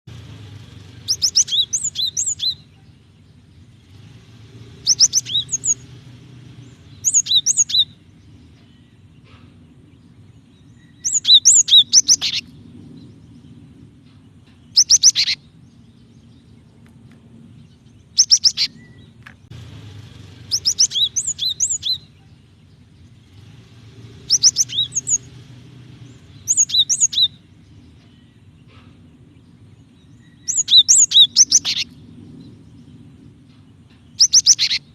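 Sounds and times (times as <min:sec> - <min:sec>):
bird high rapid chirps: 0:00.7 - 0:04.0, 0:04.6 - 0:16.8, 0:18.0 - 0:19.6, 0:20.3 - 0:23.5, 0:24.1 - 0:34.9.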